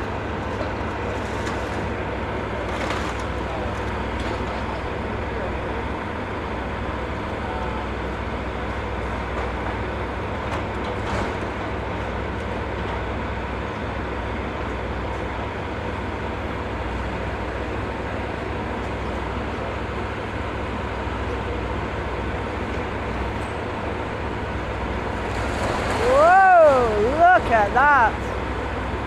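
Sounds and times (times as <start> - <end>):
demolition machinery rumble: 0.0 - 29.0
road traffic: 0.0 - 29.0.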